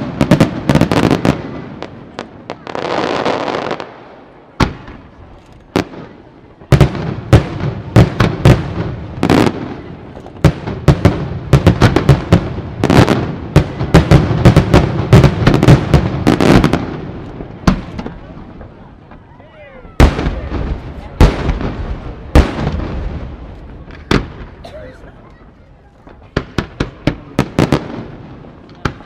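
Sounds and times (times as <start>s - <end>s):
fireworks bursting bangs: 0.0s - 24.7s, 26.0s - 29.0s.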